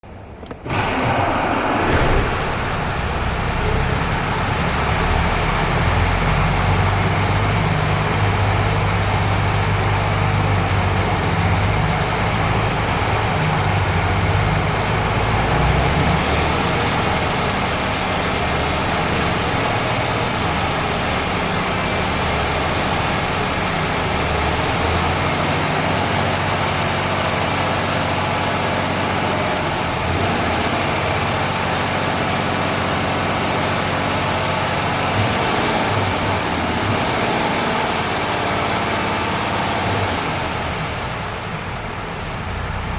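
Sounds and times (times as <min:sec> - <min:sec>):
lorry diesel engine idling: 0:00.0 - 0:42.9.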